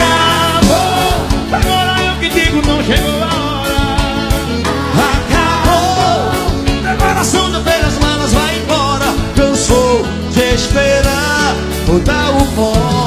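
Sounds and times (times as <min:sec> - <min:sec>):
live band music: 0:00.0 - 0:13.0
man singing: 0:00.0 - 0:13.0.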